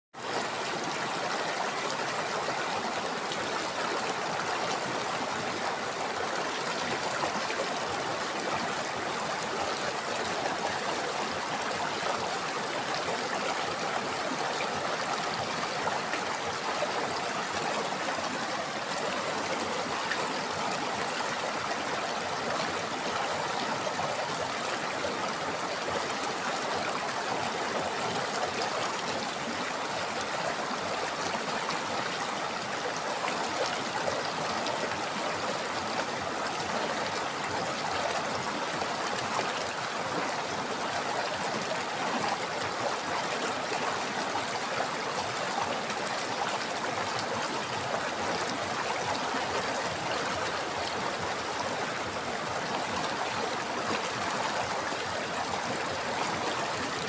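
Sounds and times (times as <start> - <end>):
river water rushing: 0.2 - 57.0.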